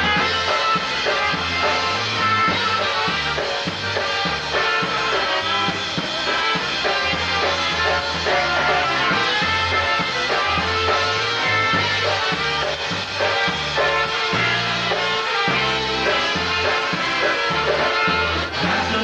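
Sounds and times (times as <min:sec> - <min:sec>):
polka band playing: 0:00.0 - 0:19.0.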